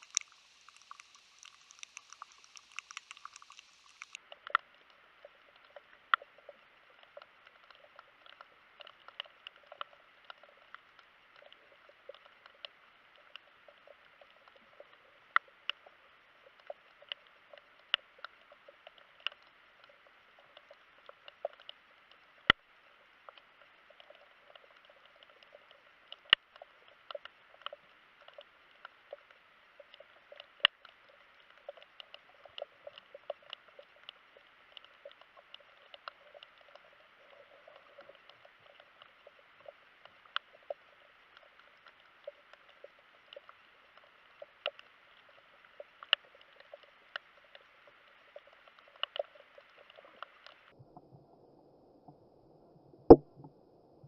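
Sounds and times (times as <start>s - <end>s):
underwater crackle of sharp clicks: 0.0s - 50.8s, 53.1s - 53.6s.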